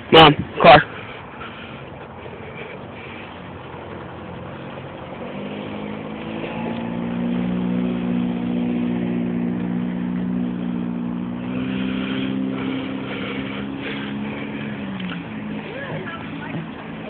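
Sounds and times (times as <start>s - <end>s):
vehicle motor humming: 0.0s - 17.0s.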